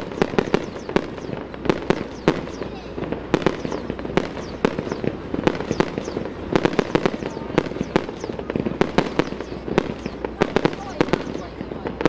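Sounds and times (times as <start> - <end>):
fireworks shells bursting: 0.0 - 12.0.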